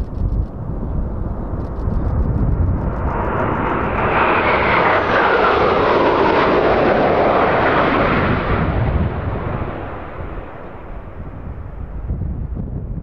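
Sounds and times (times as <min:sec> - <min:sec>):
jets flying past: 0:00.3 - 0:12.1.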